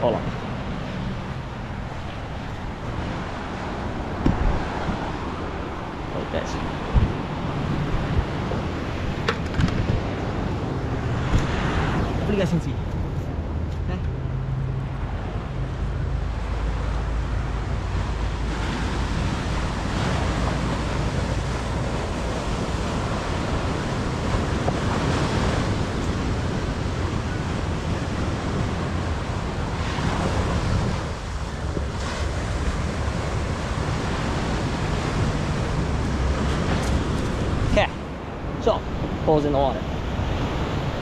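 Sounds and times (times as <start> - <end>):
ocean surf washing ashore: 0.0 - 41.0
wind buffeting microphone: 0.0 - 41.0.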